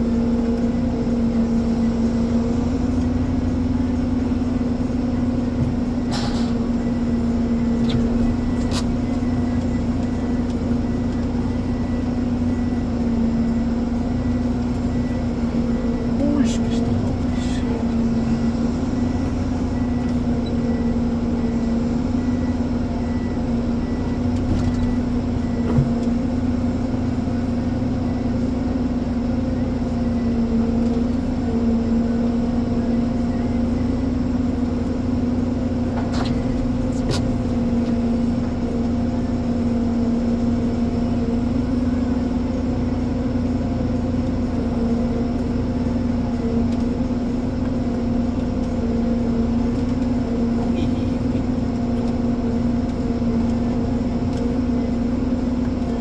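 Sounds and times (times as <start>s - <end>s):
diesel engine humming: 0.0s - 56.0s.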